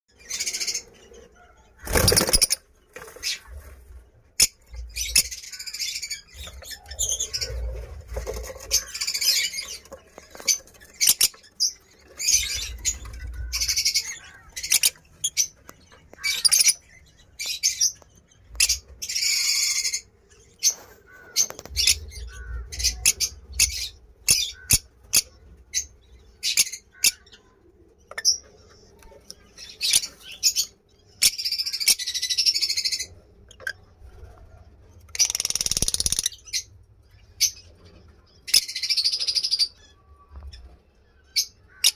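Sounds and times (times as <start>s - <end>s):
lovebirds chirping: 0.1s - 41.9s.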